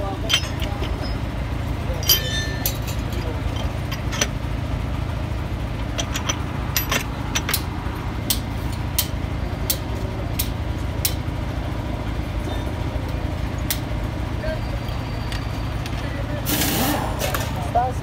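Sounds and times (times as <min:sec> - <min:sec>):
low rumble of vehicle engines: 0:00.0 - 0:18.0.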